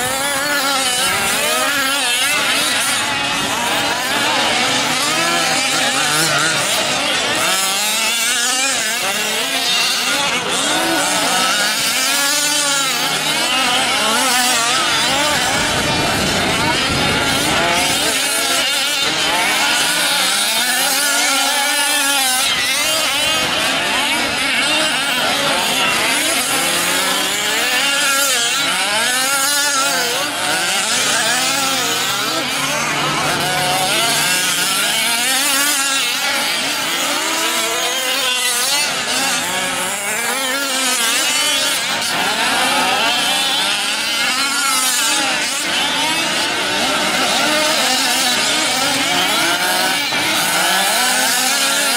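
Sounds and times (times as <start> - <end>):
small two-stroke engines revving: 0.0 - 51.9.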